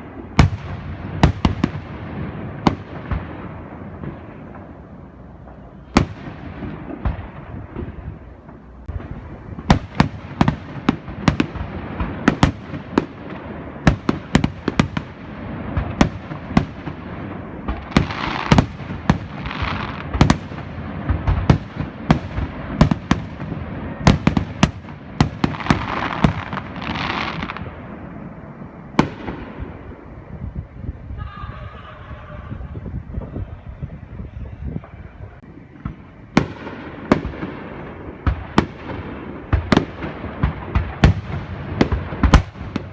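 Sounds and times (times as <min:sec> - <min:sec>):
fireworks bursting with sharp bangs: 0:00.0 - 0:42.9.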